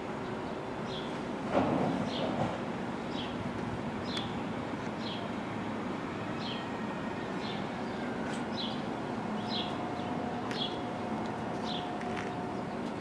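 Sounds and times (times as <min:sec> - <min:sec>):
subway train rumble and hum: 0:00.0 - 0:13.0.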